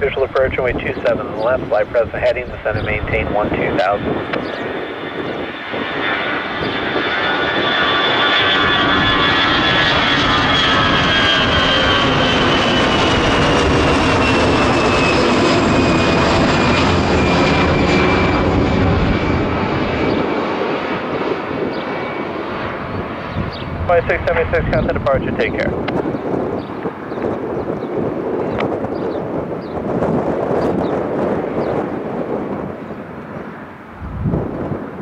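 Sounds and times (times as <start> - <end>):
jet engines taking off: 0.0 - 35.0.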